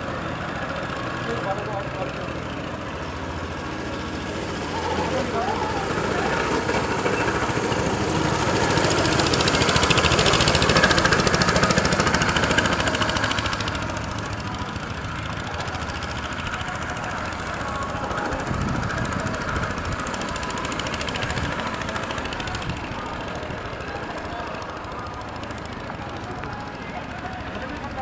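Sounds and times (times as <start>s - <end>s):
go-kart engines: 0.0s - 28.0s.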